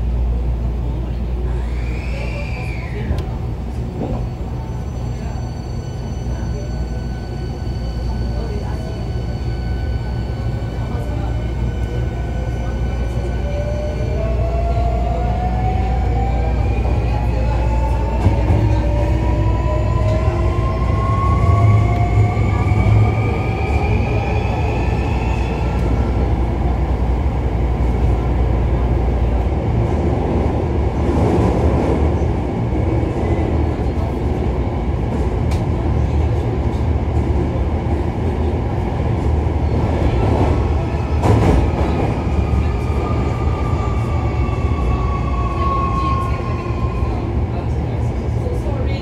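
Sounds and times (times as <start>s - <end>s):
train wheels running on rails: 2.8s - 49.0s.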